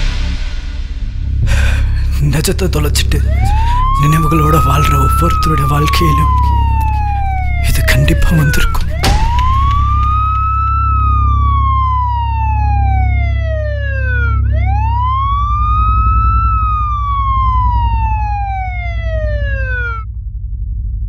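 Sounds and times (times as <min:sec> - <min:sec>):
low hum: 0:00.0 - 0:21.0
ambulance siren wailing: 0:02.4 - 0:20.1.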